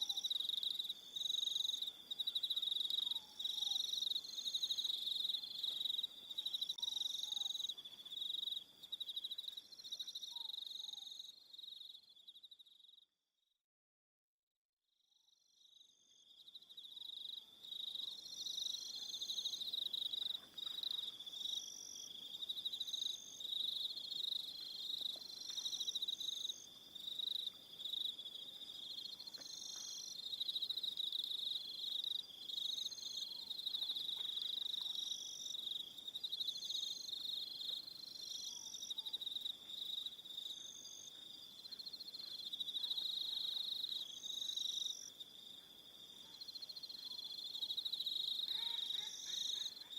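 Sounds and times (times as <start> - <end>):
crickets chirping: 0.0 - 13.1, 15.5 - 49.9.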